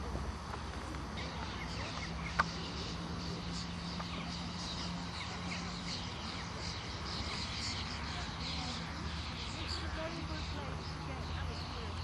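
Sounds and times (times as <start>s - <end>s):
faint low hum: 0.0s - 12.0s
birds chirping and calling: 0.4s - 12.0s.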